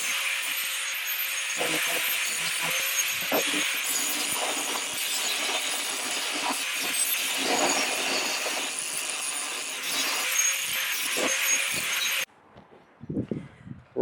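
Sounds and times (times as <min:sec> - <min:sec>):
angle grinder grinding steel: 0:00.0 - 0:12.3.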